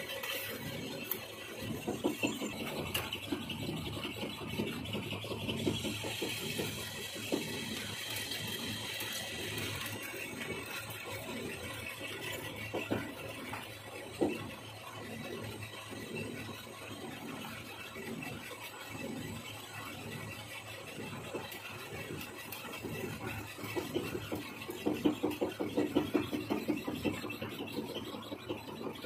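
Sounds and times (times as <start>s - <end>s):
machine humming: 0.0s - 29.0s
metal lathe cutting: 0.0s - 29.0s.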